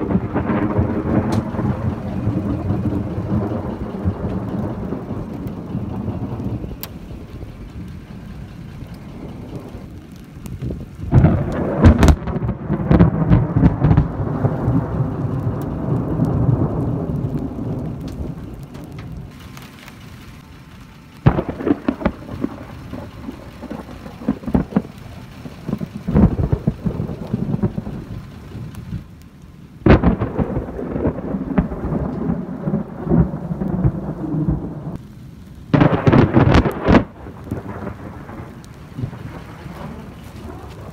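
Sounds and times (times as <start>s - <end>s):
loud thunder clap: 0.0s - 7.5s, 11.0s - 19.3s, 21.2s - 29.0s, 29.8s - 35.0s, 35.7s - 40.9s
thunder crack and rumble: 0.0s - 29.2s, 29.8s - 40.9s.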